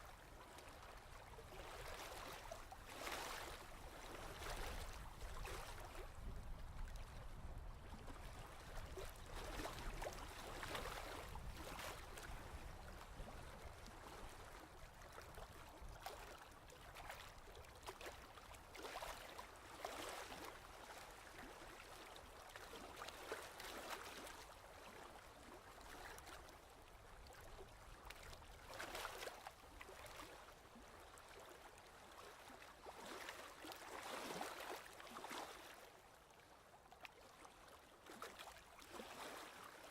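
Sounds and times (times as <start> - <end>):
faint ocean waves: 0.0 - 39.9.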